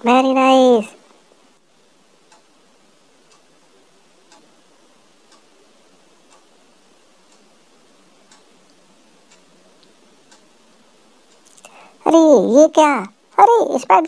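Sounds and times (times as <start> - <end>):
faint steady hiss: 0.0 - 14.0
clock ticking: 2.1 - 14.0.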